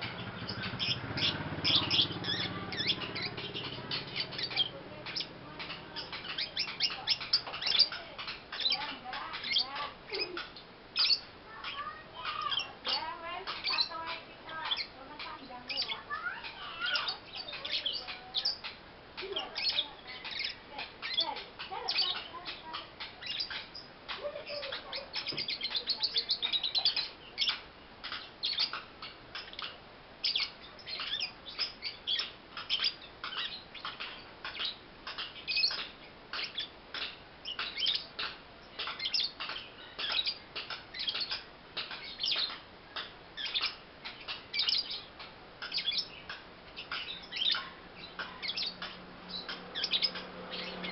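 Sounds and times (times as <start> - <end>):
lovebird chirping: 0.0 - 50.9.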